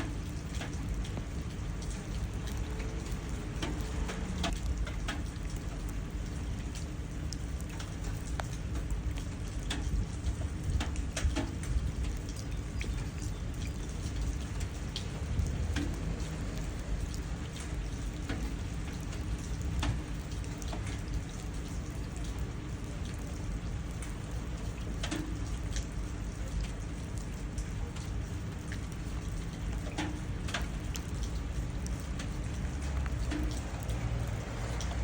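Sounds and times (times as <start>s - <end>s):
rain pattering into puddles: 0.0s - 35.0s.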